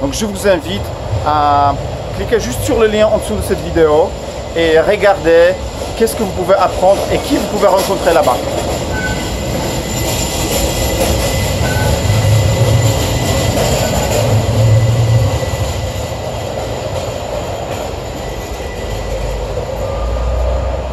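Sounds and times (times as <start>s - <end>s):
electric tram rumbling past: 0.0s - 20.9s.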